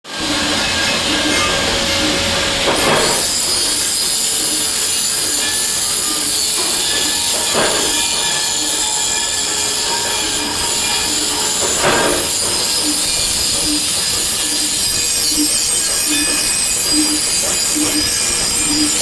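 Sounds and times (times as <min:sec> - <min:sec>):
industrial machinery running: 0:00.0 - 0:19.0
high-pitched metallic whining: 0:00.1 - 0:19.0.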